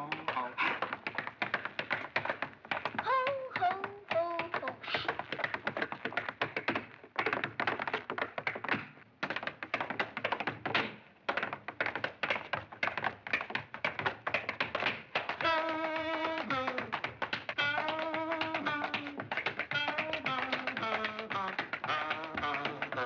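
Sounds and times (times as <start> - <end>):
tap shoes clicking: 0.0 - 23.0.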